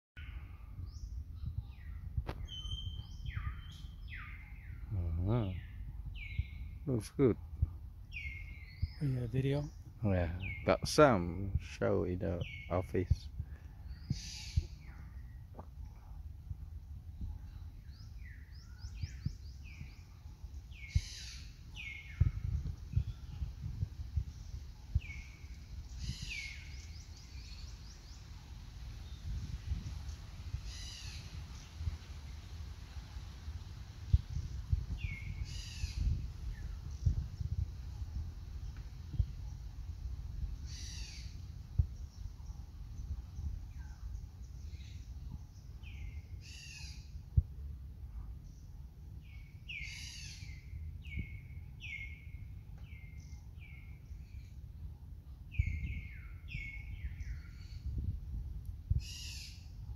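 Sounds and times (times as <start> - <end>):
forest birds calling: 0.2 - 47.4, 48.3 - 58.2, 58.9 - 59.9
steady low rumble: 0.2 - 49.7, 50.4 - 59.9.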